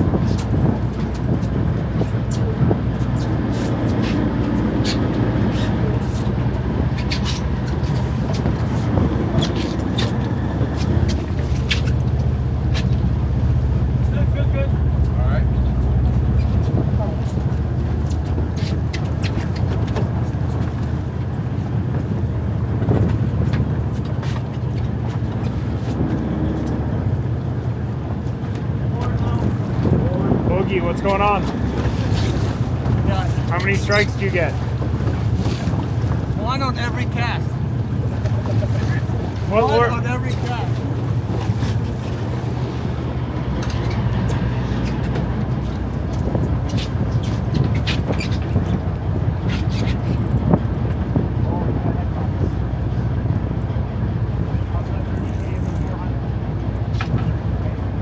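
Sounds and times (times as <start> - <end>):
boat engine rumbling: 0.0 - 58.0.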